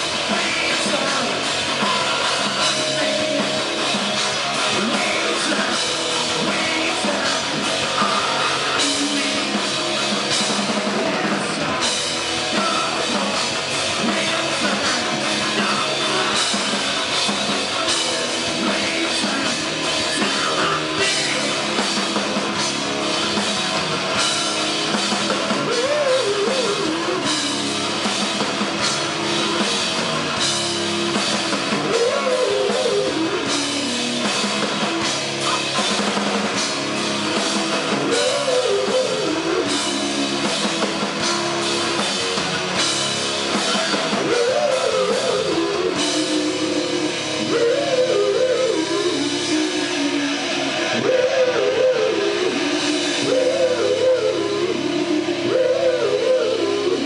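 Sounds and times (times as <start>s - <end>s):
bending guitar melody: 0.0s - 57.0s
live rock band: 0.0s - 57.0s.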